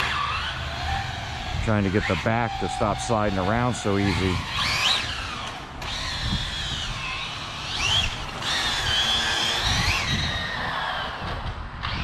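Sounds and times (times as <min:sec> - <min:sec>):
rc car electric motors whining: 0:00.0 - 0:12.0.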